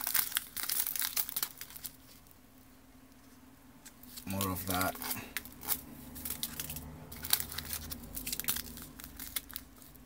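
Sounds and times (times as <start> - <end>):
packaging rustling and crinkling: 0.0 - 2.3, 4.1 - 10.0.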